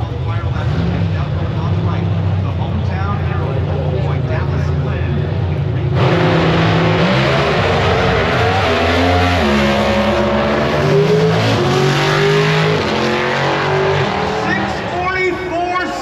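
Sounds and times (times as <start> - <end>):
drag car engines at full throttle: 0.0 - 16.0.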